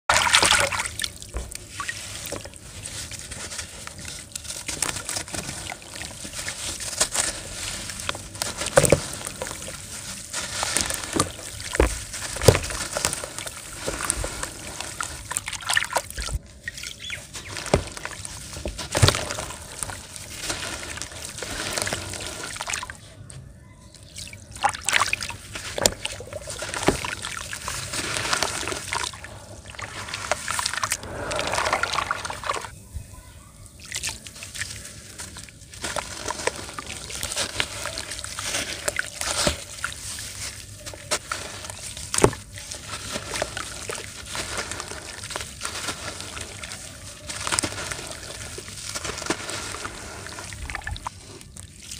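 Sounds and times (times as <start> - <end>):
hands sloshing water in tub: 0.1 - 23.0, 24.0 - 32.7, 33.8 - 51.9
water trickling from hands: 0.1 - 23.0, 23.9 - 32.7, 33.8 - 51.9.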